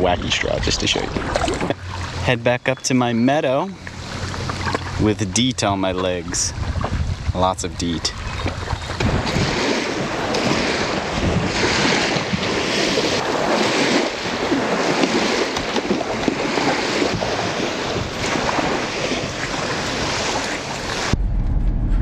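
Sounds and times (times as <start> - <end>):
lake waves washing onto shore: 0.0 - 21.2
wind on microphone: 3.8 - 22.0.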